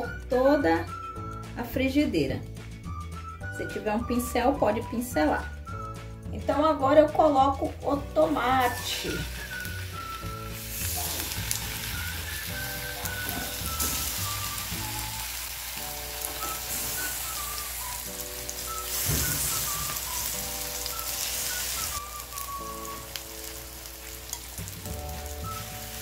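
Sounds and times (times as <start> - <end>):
soft background music: 0.0 - 26.0
tomato slices sizzling in oil: 3.2 - 26.0.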